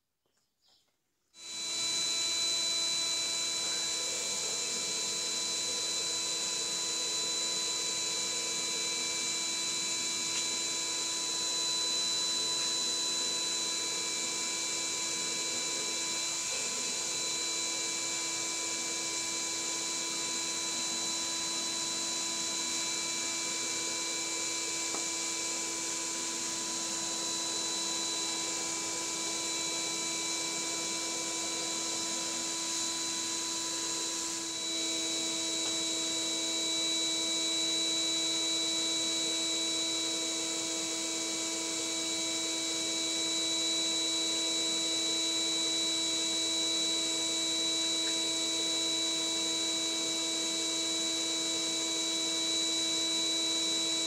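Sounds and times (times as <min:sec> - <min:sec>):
vacuum cleaner running: 0:01.4 - 0:54.0.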